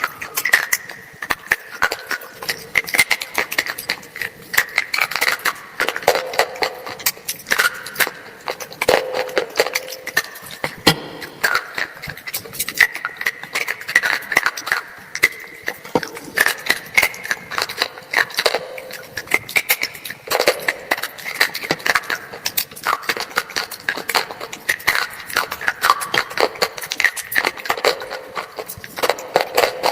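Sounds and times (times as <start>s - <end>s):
crunching and chewing: 0.0s - 29.9s.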